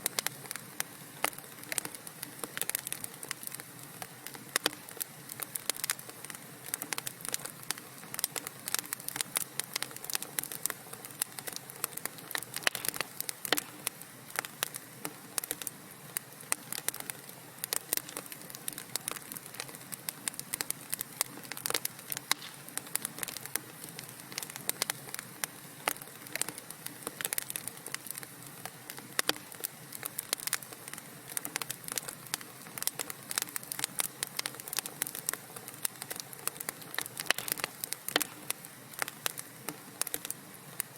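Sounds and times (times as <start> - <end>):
soft steady hiss: 0.0 - 40.9
wood fire crackling and popping: 0.0 - 40.9.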